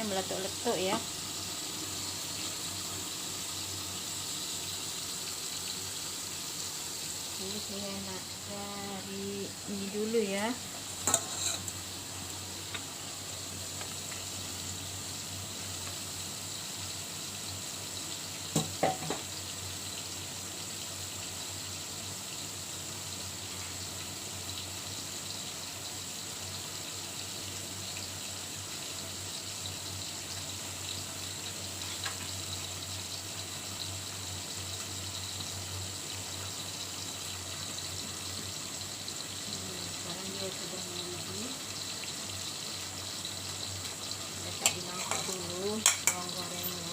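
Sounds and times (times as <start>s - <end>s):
pot boiling hiss: 0.0s - 46.9s.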